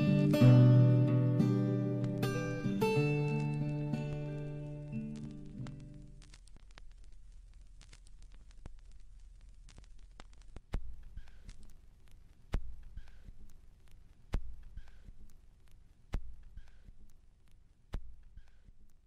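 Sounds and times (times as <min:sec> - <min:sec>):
vinyl crackle and pops: 0:00.0 - 0:19.0.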